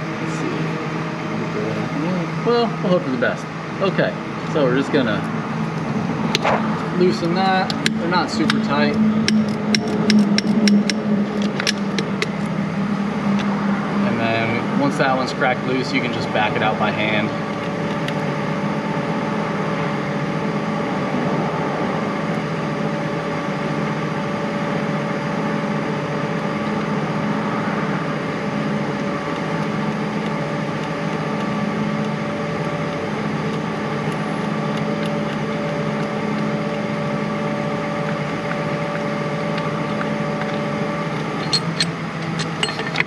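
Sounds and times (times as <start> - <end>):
steady mechanical hum: 0.0 - 43.0.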